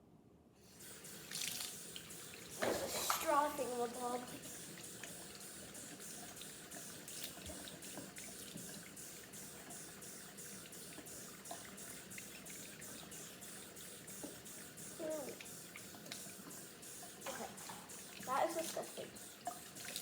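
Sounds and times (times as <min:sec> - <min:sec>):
tap water running into sink: 0:00.8 - 0:20.0.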